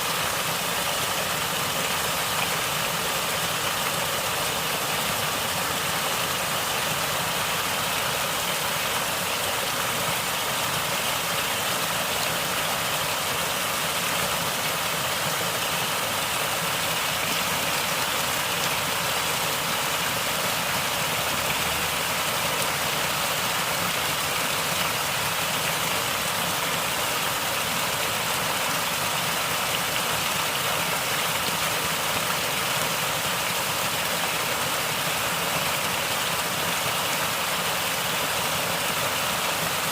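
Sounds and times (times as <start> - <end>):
water flowing and gurgling: 0.0 - 39.9.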